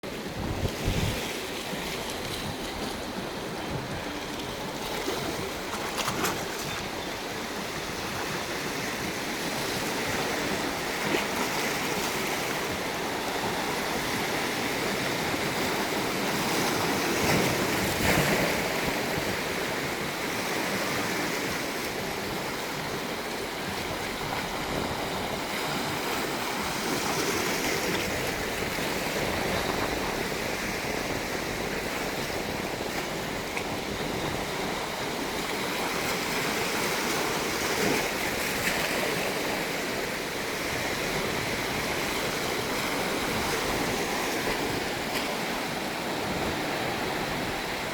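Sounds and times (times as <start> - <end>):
waves breaking and washing: 0.0 - 47.9.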